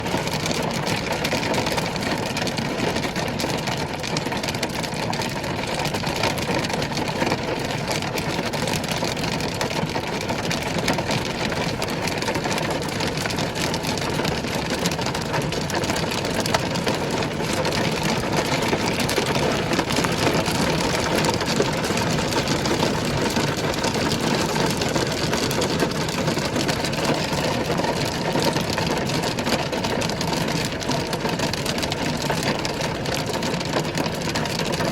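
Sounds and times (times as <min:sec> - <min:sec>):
heavy hail clattering: 0:00.0 - 0:34.9.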